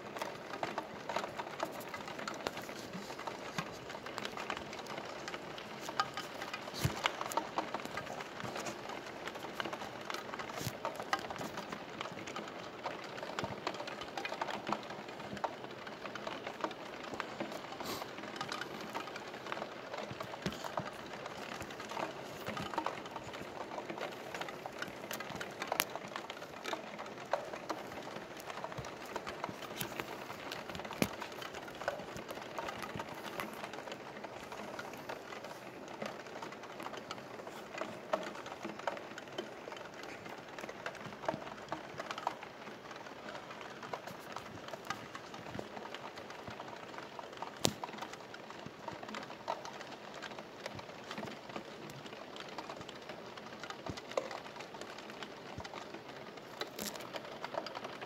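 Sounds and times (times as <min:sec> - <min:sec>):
rain falling on a window: 0:00.0 - 0:58.0.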